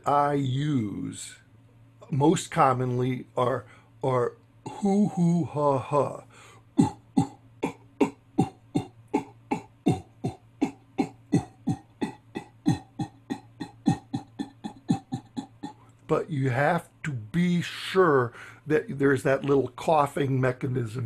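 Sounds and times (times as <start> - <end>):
man imitating train chugs: 2.2 - 21.0.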